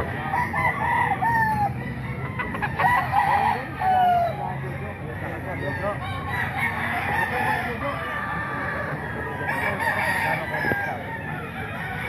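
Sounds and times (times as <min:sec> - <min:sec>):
roosters crowing and clucking: 0:00.0 - 0:12.0.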